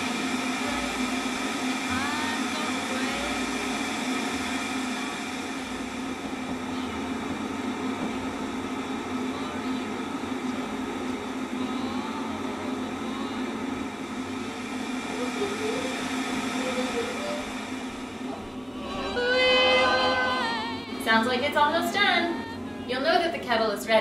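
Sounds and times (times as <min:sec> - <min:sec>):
electric kettle heating water: 0:00.0 - 0:24.0.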